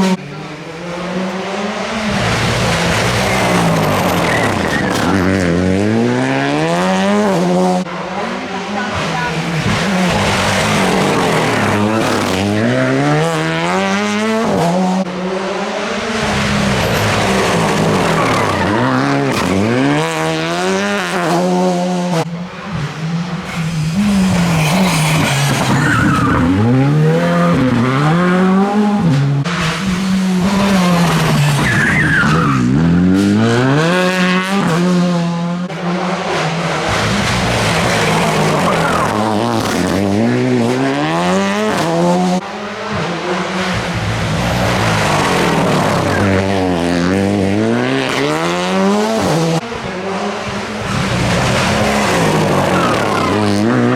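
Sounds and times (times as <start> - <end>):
tyres skidding and squealing: 0.0 - 21.5, 22.1 - 34.8, 35.7 - 53.9
rally car engines revving: 0.0 - 53.9.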